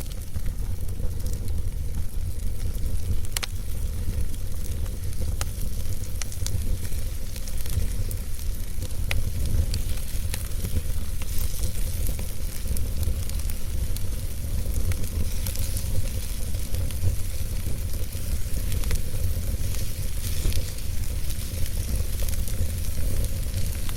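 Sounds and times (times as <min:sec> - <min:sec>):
low rumble of flames: 0:00.0 - 0:23.9
sharp pops of burning wood: 0:00.0 - 0:23.9
wood fire crackling: 0:00.0 - 0:23.9.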